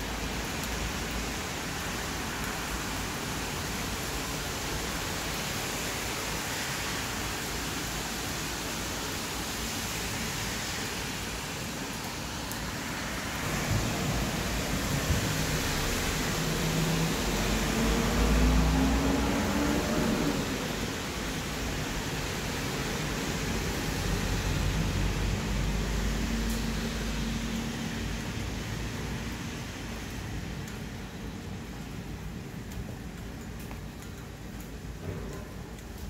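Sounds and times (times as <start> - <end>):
steady rain hiss: 0.0 - 36.0
vehicle on wet road: 0.0 - 36.0.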